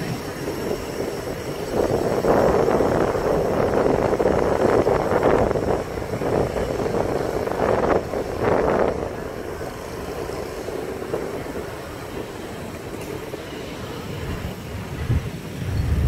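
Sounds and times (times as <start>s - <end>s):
street traffic rumbling: 0.0s - 16.0s
wind on microphone: 0.0s - 16.0s.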